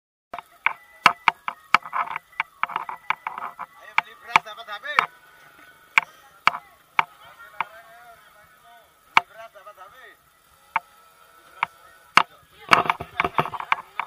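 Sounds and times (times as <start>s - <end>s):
people's voices: 0.4s - 14.0s.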